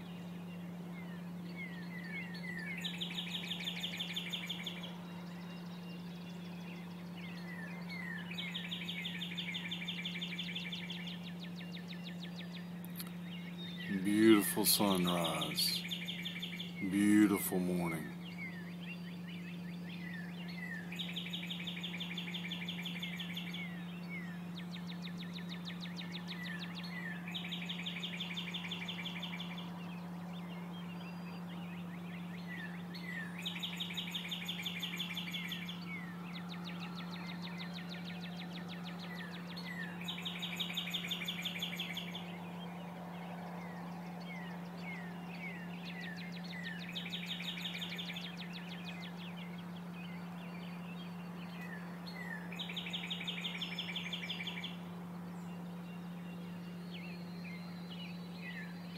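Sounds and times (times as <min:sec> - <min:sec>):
songbird singing with trill: 0:00.0 - 0:58.9
steady low hum: 0:00.0 - 0:58.9.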